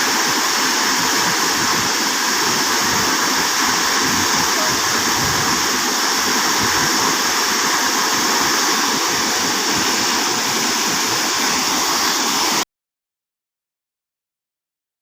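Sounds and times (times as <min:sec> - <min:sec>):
waterfall rushing: 0:00.0 - 0:12.6.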